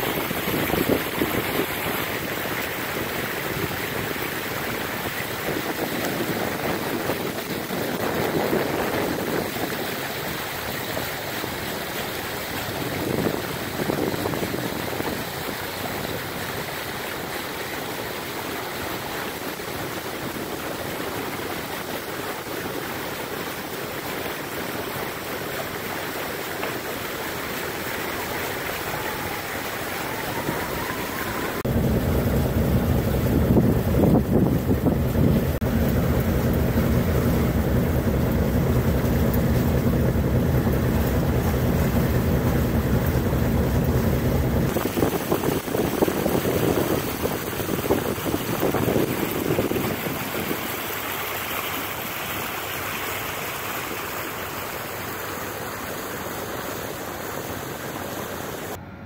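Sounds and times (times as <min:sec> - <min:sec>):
water rushing along boat bow: 0:00.0 - 0:59.0.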